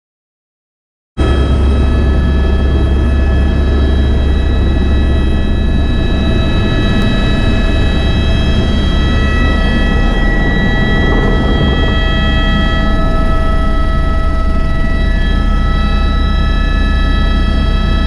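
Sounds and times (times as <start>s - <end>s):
helicopter drone from cabin: 1.2s - 18.0s
high-pitched turbine whine: 1.2s - 18.0s.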